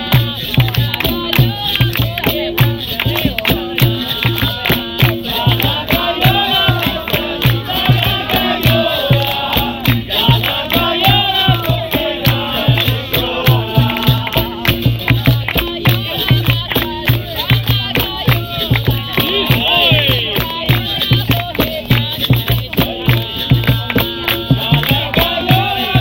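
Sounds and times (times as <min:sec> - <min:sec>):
group of voices singing chant: 0:00.0 - 0:26.0
steady drum beat: 0:00.0 - 0:26.0.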